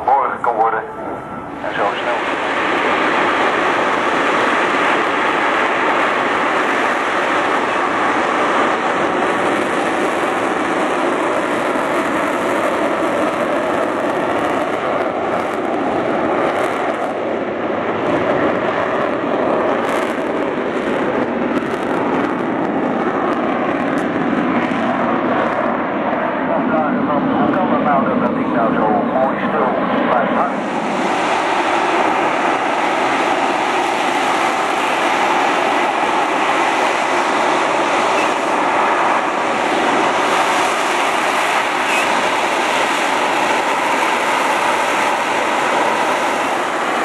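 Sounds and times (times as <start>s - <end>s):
jet engine roaring at high thrust: 0.0s - 47.0s.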